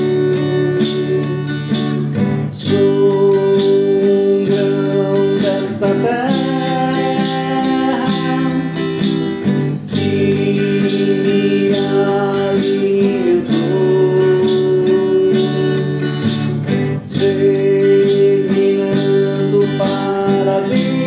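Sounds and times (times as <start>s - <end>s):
acoustic guitar strumming: 0.0s - 21.0s
person singing: 0.0s - 21.0s.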